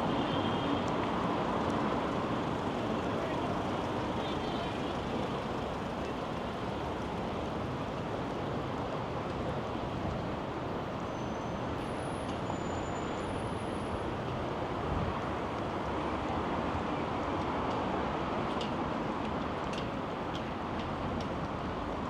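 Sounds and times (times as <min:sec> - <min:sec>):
city street ambience: 0:00.0 - 0:22.0.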